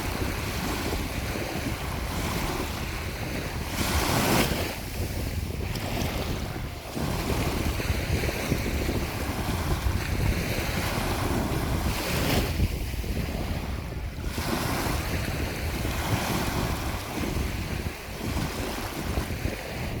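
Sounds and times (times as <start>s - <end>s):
waves washing onto shore: 0.0s - 20.0s
wind buffeting microphone: 0.0s - 20.0s.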